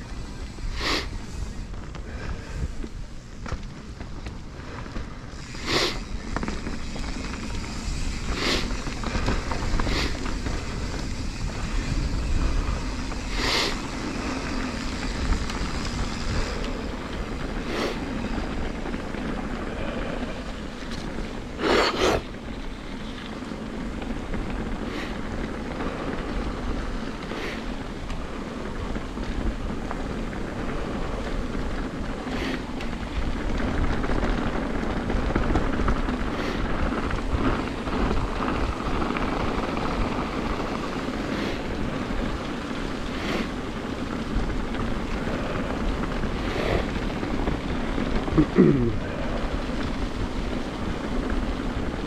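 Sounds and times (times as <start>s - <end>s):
bike clattering over bumps: 0.0s - 52.0s
bike tyres rolling on dirt: 0.0s - 52.0s
wind on microphone: 0.0s - 52.0s.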